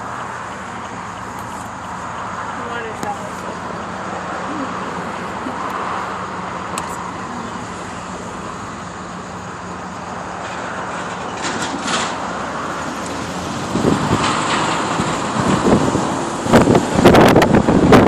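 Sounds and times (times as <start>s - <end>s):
road traffic noise: 0.0s - 18.0s
vehicle passing close: 0.0s - 18.0s.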